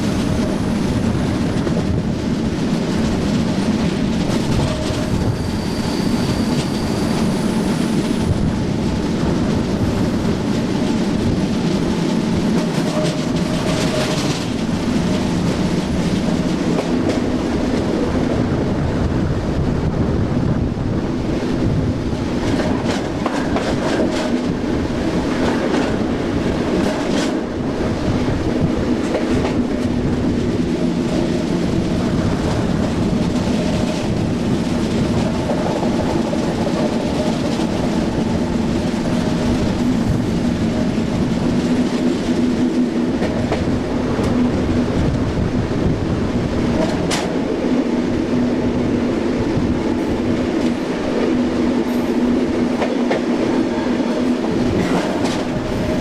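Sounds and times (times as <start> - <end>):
rail clicks: 0.0 - 19.3, 21.3 - 56.0
train wheels rumbling: 0.0 - 56.0.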